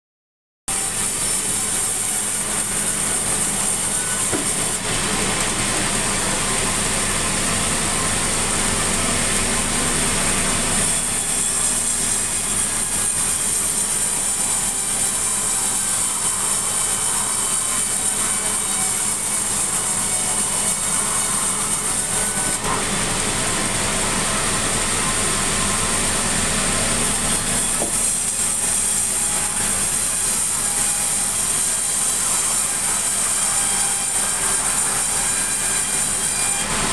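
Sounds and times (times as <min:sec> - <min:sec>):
sawmill machinery sawing timber: 0:00.7 - 0:36.9.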